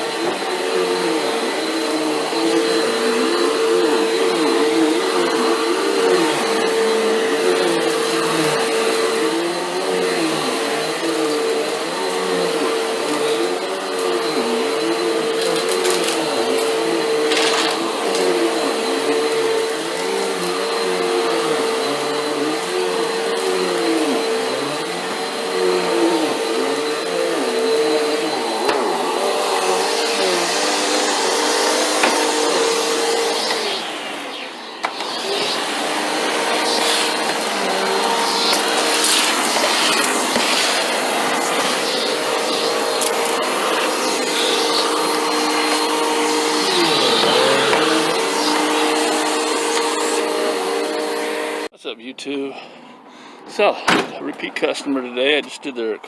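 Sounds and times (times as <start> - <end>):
vacuum cleaner running on carpet: 0.0 - 51.7.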